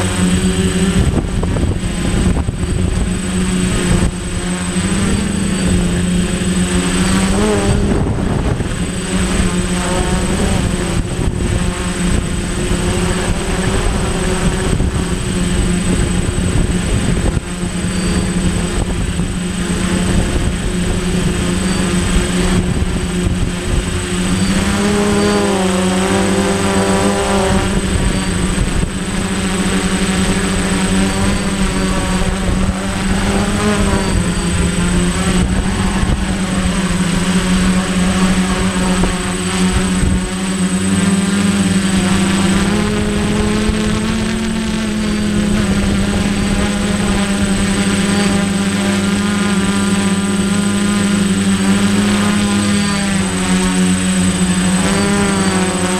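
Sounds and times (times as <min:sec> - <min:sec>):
drone propellers buzzing: 0:00.0 - 0:55.9
wind rumbling on microphone: 0:00.0 - 0:55.9.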